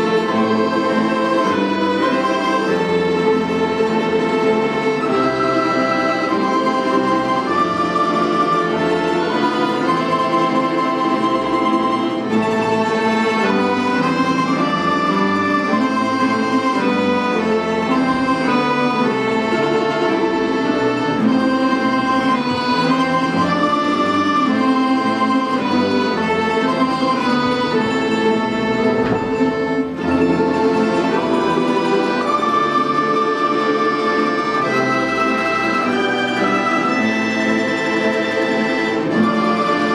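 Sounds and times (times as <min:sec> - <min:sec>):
folk instrument orchestra playing: 0:00.0 - 0:39.9.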